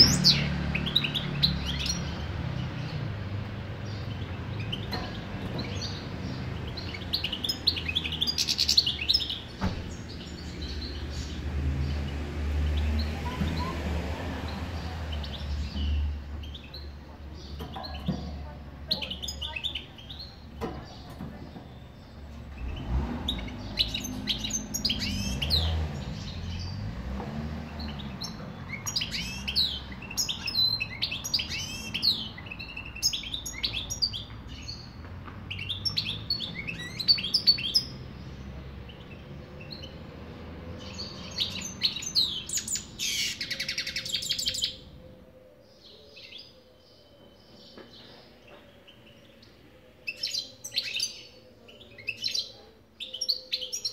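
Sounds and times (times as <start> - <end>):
finch singing: 0.0 - 26.9, 27.6 - 40.1, 40.7 - 53.9.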